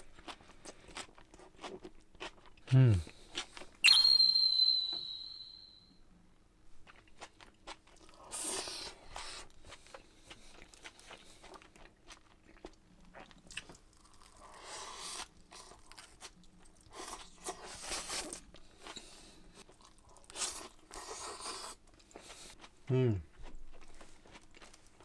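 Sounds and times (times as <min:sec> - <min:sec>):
chewing and crunching food: 0:00.0 - 0:03.8, 0:06.7 - 0:25.0.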